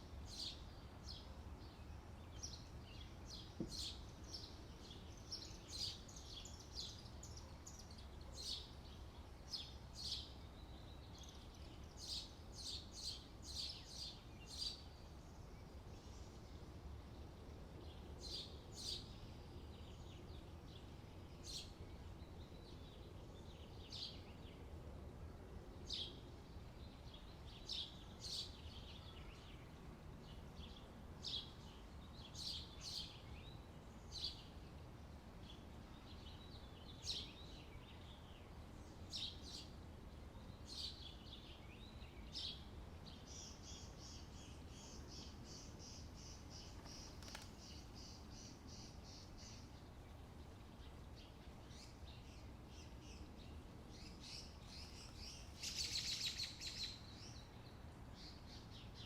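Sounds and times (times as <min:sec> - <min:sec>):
small birds chirping: 0:00.0 - 0:24.8, 0:25.8 - 0:59.0.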